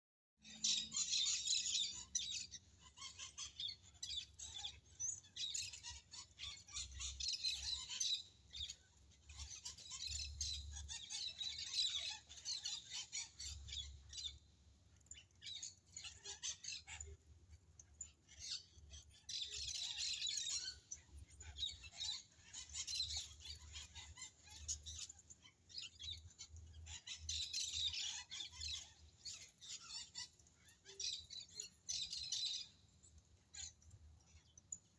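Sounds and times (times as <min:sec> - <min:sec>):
birds chirping rapidly: 0:00.4 - 0:34.9.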